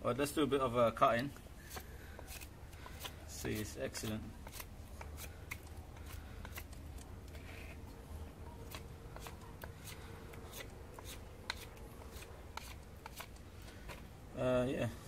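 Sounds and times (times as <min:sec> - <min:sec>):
knife shaving wooden stick: 0:01.1 - 0:14.2.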